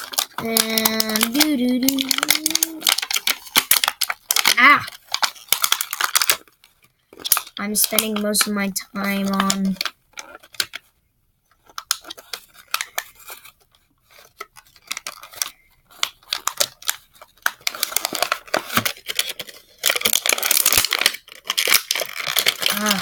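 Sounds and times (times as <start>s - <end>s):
plastic bag crinkling and tearing: 0.0s - 10.9s, 11.5s - 23.0s.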